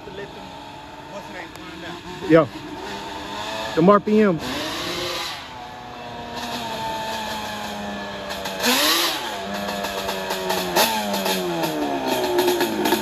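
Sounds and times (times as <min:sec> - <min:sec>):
two-stroke quad engine revving: 0:00.0 - 0:13.0.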